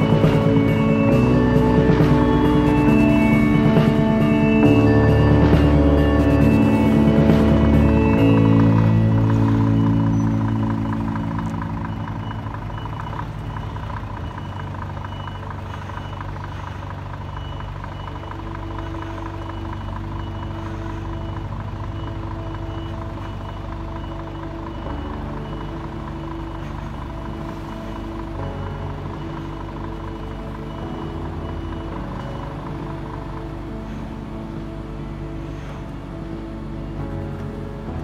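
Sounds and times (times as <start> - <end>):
diesel engine running: 0.0 - 38.0
high reversing beeper: 0.0 - 38.0.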